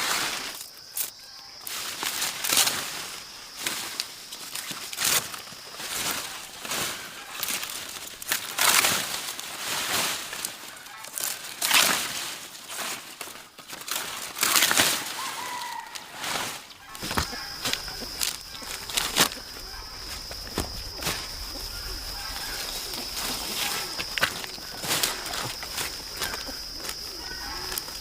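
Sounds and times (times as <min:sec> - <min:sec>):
slow crunching footsteps: 0:00.0 - 0:28.0.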